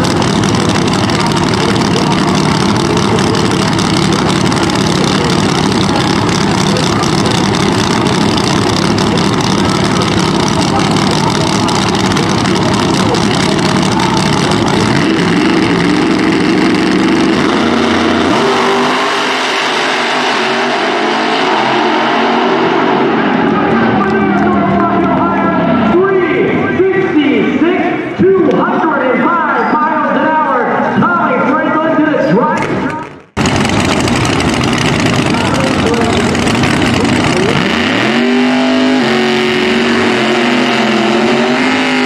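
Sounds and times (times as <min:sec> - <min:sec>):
drag car engines revving and accelerating: 0:00.0 - 0:28.2, 0:32.6 - 0:42.0.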